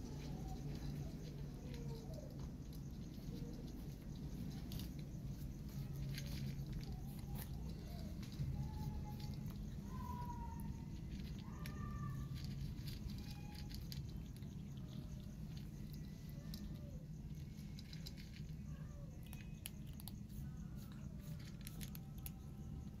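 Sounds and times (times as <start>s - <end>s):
low background rumble: 0.0s - 23.0s
cats crunching dry kibble: 0.1s - 23.0s.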